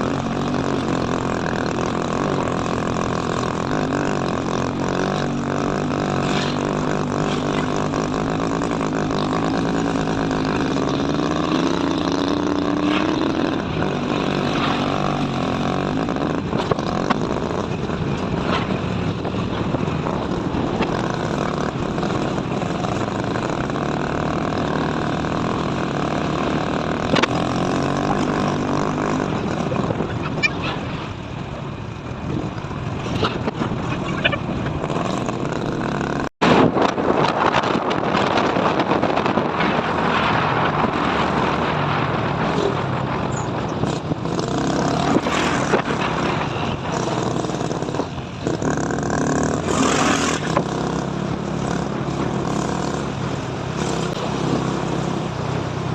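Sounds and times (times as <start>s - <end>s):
vehicle engine and tyre noise: 0.0s - 55.9s.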